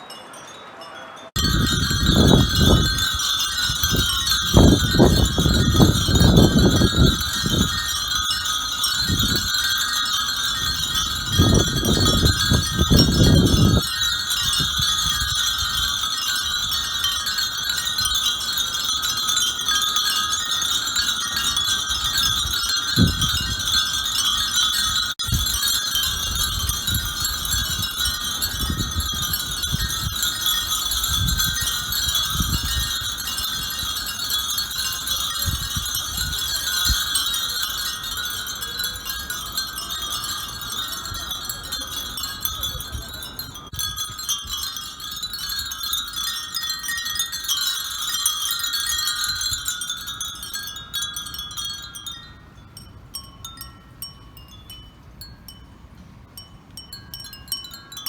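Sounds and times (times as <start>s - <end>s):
wind bells tinkling: 0.0s - 58.0s.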